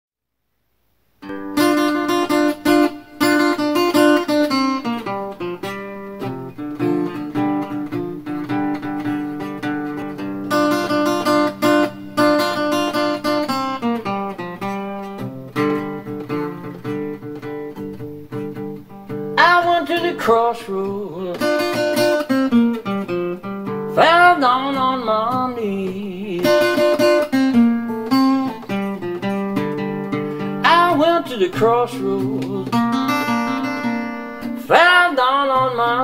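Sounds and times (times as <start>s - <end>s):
acoustic guitar playing blues: 1.2s - 36.0s.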